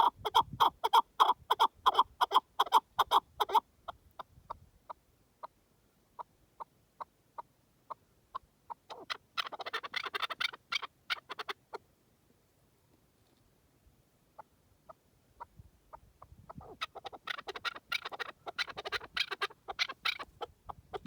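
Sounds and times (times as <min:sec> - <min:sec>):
partridge clucking calls: 0:00.0 - 0:05.6, 0:06.2 - 0:11.8, 0:14.4 - 0:21.0.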